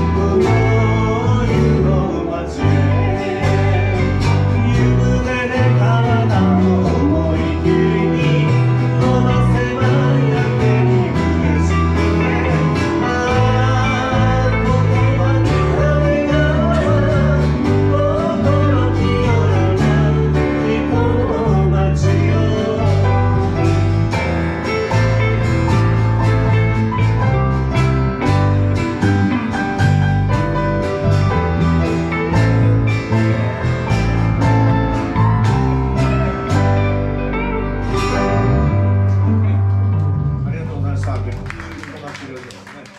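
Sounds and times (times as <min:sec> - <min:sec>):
plucked guitar notes: 0:00.0 - 0:41.7
steady bass line: 0:00.0 - 0:42.0
live band playing: 0:00.0 - 0:42.9.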